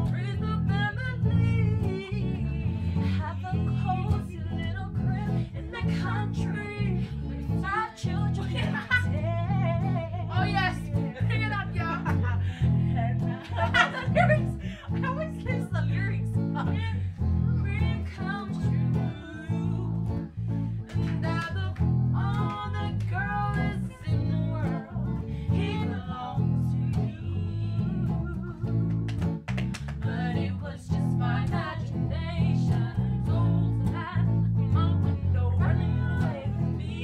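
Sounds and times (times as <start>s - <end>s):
women singing together: 0.0s - 28.8s, 29.9s - 37.0s
guitar accompaniment: 0.0s - 37.0s.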